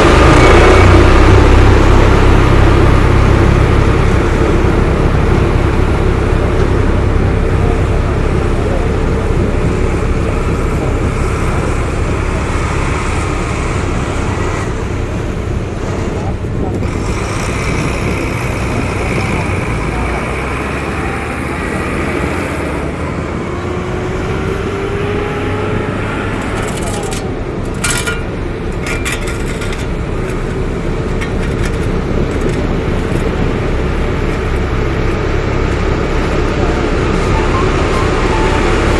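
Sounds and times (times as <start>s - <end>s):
heavy engine rumbling: 0.0s - 38.9s.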